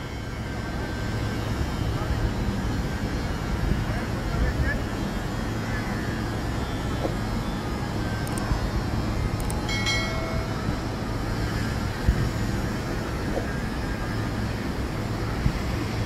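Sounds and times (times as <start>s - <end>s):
truck crane diesel engine humming: 0.0s - 16.0s.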